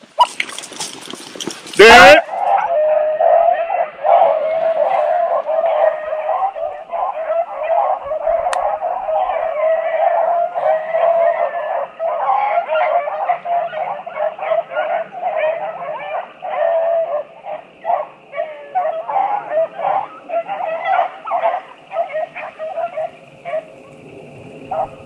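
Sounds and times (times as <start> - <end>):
dogs baying: 0.0 - 25.0.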